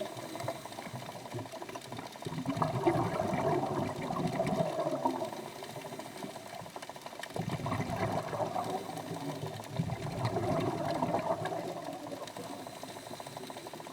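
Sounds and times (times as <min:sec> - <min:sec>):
underwater bubbling water: 0:00.0 - 0:13.9.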